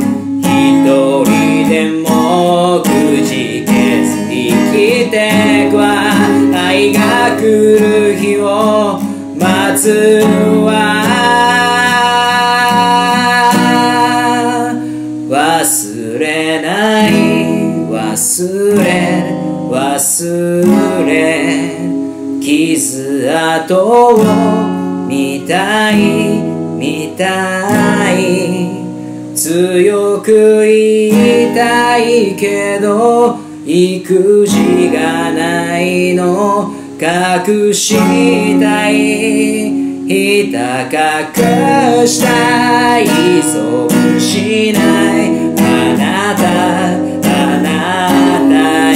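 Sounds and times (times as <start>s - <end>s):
man singing a ballad: 0.0s - 48.9s
strummed acoustic guitar: 0.0s - 48.9s.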